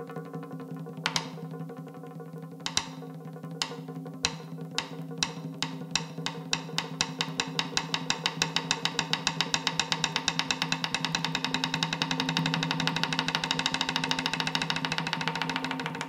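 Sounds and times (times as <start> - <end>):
percussion beat quickening into roll: 0.0 - 16.0.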